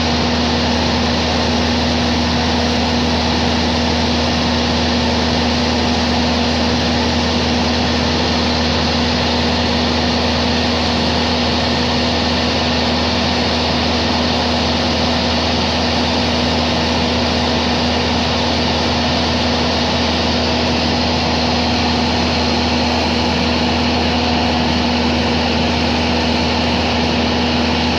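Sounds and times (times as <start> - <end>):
drone propellers humming: 0.0 - 27.9.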